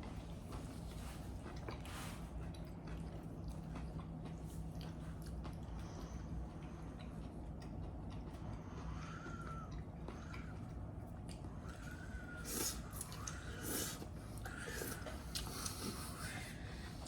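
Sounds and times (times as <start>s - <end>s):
steady low hum: 0.0s - 17.0s
wet chewing: 0.0s - 17.0s.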